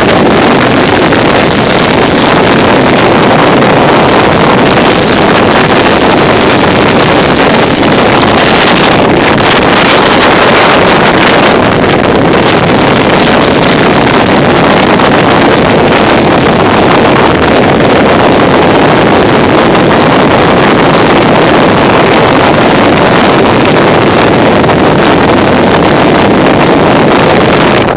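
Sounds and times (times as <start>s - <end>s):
motorcycle engines running: 0.0s - 27.9s
wind roar on microphone: 0.0s - 27.9s.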